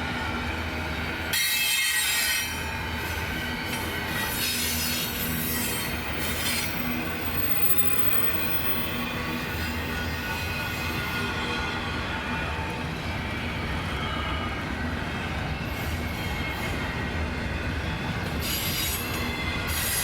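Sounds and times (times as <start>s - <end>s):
freight train rumbling past: 0.0s - 20.0s
train wheel squeal: 0.0s - 20.0s.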